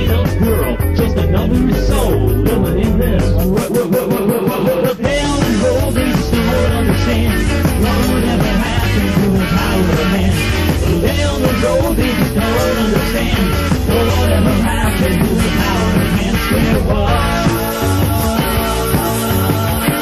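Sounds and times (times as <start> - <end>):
new wave rock band playing: 0.0 - 20.0.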